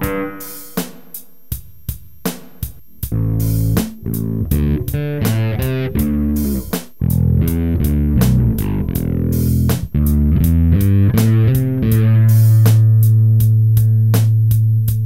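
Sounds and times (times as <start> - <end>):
electric bass notes: 0.0 - 0.6, 3.1 - 15.0.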